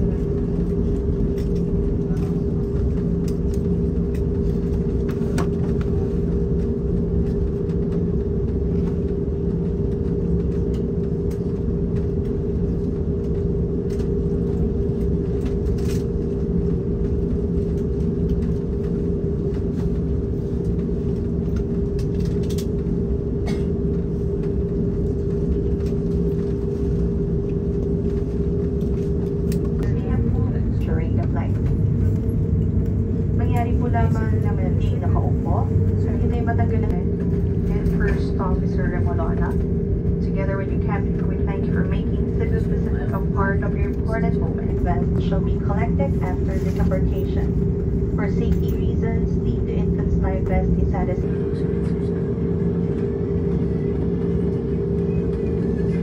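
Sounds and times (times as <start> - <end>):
aircraft cabin rumble: 0.0 - 56.0
steady hum: 0.0 - 56.0.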